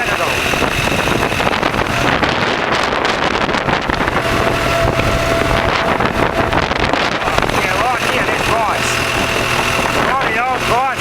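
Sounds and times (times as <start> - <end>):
thin steady whine: 0.0 - 11.0
tractor engine running: 0.0 - 11.0
wind buffeting microphone: 0.0 - 11.0.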